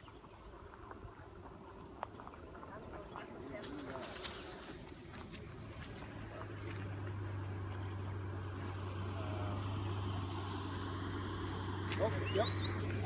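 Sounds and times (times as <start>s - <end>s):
vehicle engine idling hum: 0.0s - 13.0s.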